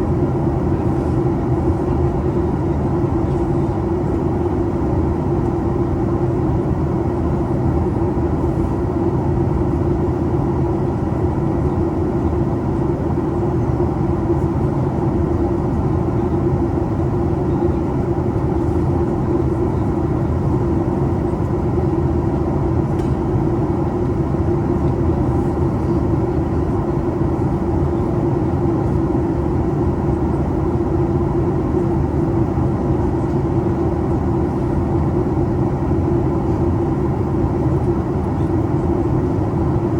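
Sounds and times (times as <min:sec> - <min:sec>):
airplane cabin engine drone: 0:00.0 - 0:39.9
constant hum: 0:00.0 - 0:39.9.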